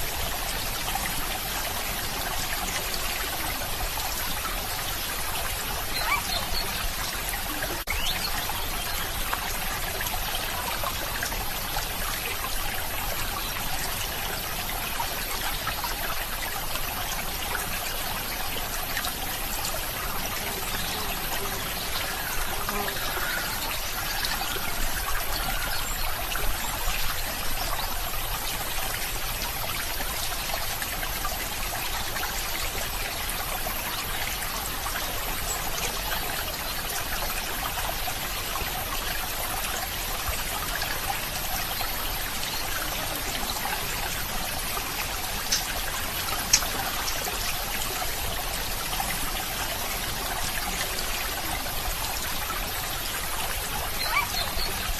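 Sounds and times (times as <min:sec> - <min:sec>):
stream trickling and burbling: 0:00.0 - 0:54.9.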